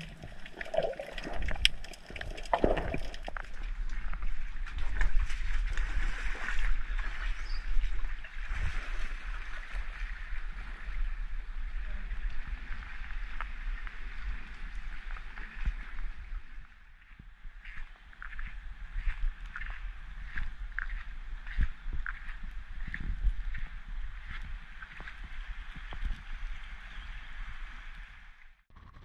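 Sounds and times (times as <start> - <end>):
wind rumble on microphone: 1.2 - 29.0.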